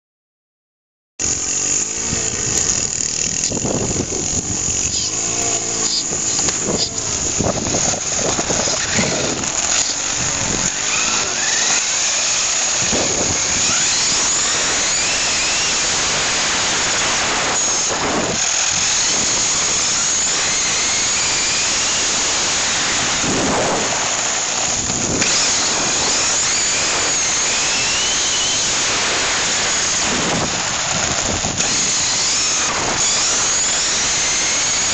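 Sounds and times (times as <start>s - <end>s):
electric motor whine: 1.2s - 34.9s
tyres hissing on asphalt: 1.2s - 34.9s.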